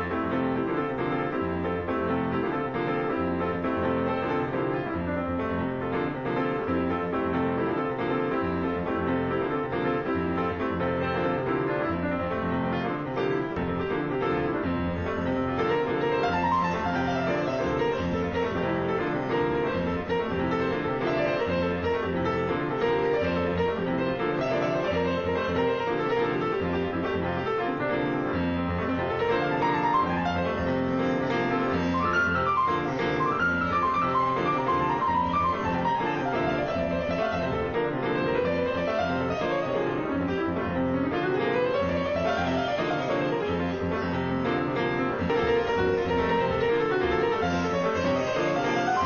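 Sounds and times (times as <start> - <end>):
jazz piano: 0.0 - 49.0.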